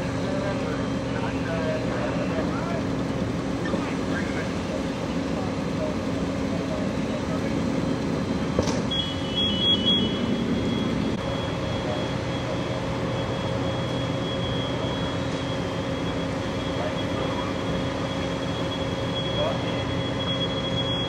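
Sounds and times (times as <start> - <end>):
fire engine running: 0.0 - 21.0.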